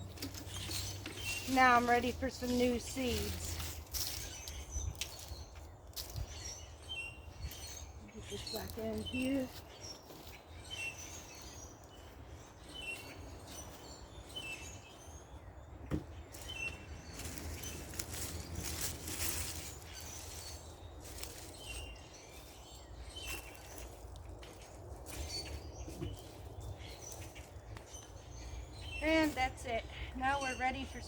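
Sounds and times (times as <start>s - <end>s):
low outdoor background: 0.0s - 31.0s
small birds chirping: 0.0s - 31.0s.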